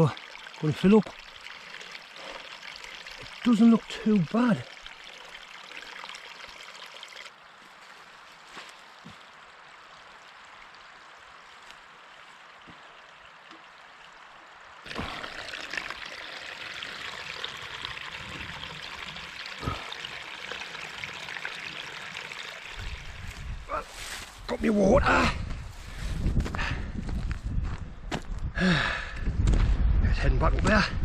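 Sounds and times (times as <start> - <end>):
stream trickling over stones: 0.0 - 25.0.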